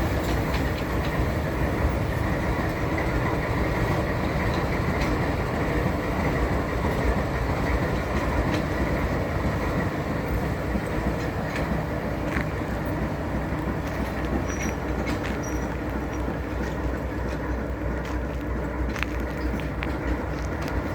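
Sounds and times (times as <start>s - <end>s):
train rumbling along track: 0.0s - 20.9s
wheels and couplings clicking: 0.0s - 20.9s.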